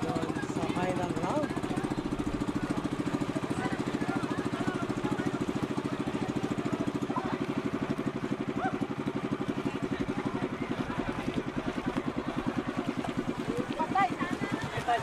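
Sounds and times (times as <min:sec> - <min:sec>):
boat engine puttering: 0:00.0 - 0:15.0.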